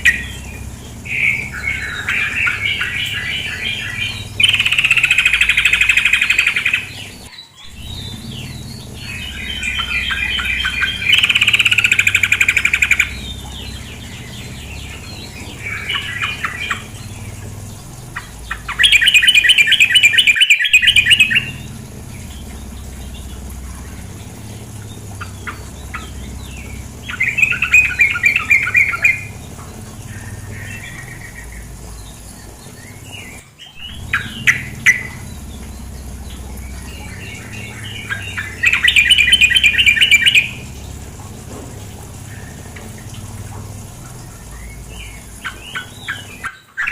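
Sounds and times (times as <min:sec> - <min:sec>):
bird chattering calls: 0:00.0 - 0:46.9
running water: 0:00.0 - 0:46.9.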